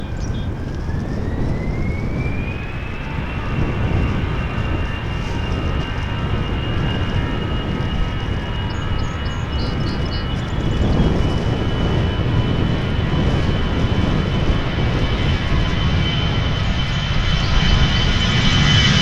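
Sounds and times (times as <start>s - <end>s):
jet engine rumble: 0.0s - 19.0s
jet engine whine: 0.0s - 19.0s.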